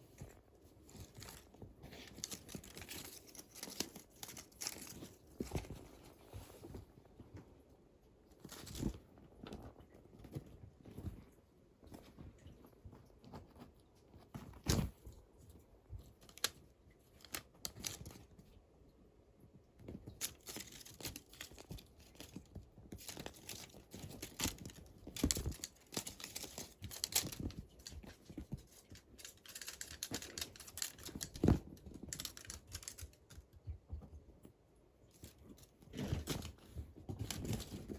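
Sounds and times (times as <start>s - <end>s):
kittens scratching and rustling: 0.0s - 37.9s.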